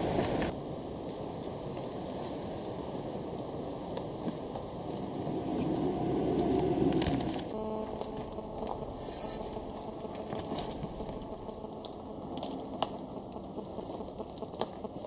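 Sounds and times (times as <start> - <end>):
rustling leaves and undergrowth: 0.0 - 15.0.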